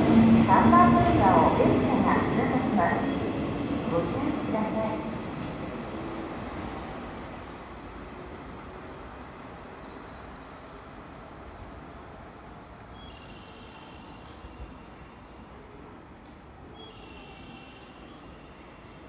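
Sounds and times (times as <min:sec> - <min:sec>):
electric train rumbling away: 0:00.0 - 0:19.0.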